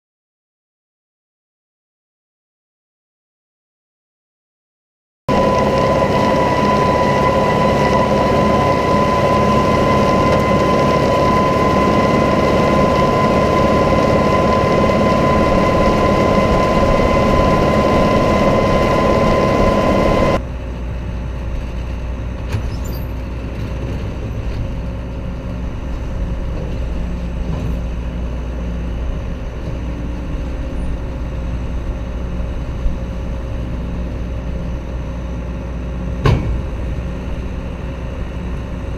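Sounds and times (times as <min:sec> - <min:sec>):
high whine of hay equipment: 0:05.3 - 0:38.9
tractor engine running: 0:05.3 - 0:38.9.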